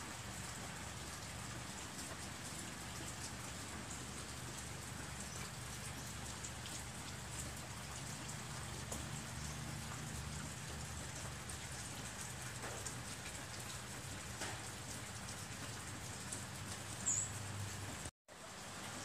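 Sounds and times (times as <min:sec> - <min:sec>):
steady rain falling: 0:00.0 - 0:19.0
water dripping: 0:00.1 - 0:18.1.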